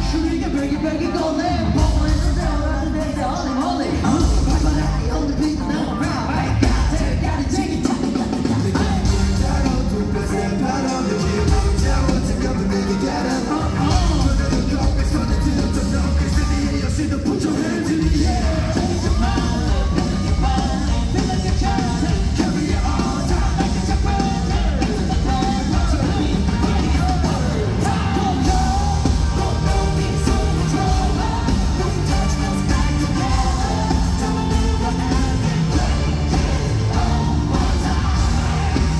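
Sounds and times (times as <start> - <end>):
person singing: 0.0 - 38.9
pop concert music over speakers: 0.0 - 38.9.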